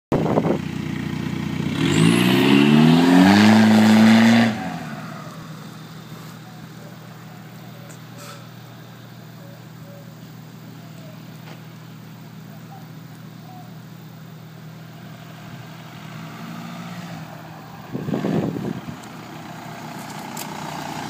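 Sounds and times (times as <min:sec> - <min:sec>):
diesel engine revving and idling: 0:00.1 - 0:21.0.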